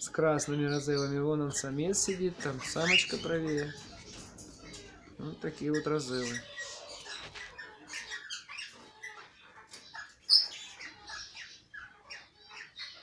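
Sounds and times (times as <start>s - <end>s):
parrots chirping and calling: 0.0s - 13.0s.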